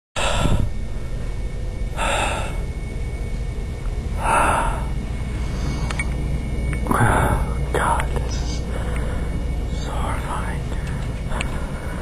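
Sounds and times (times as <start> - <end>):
low steady rumble: 0.2 - 12.0.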